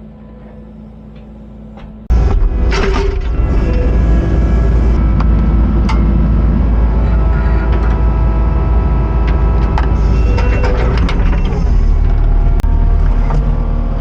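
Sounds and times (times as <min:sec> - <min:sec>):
diesel engine running: 0:00.7 - 0:14.0.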